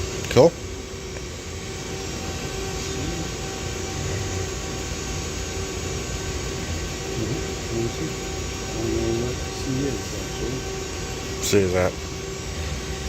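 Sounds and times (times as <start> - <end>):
machine tool humming: 0.0 - 13.0.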